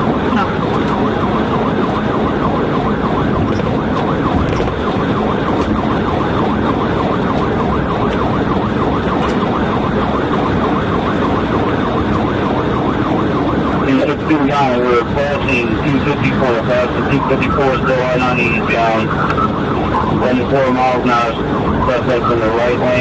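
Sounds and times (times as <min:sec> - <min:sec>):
car and road rumble: 0:00.0 - 0:23.0
police siren yelping: 0:00.0 - 0:23.0.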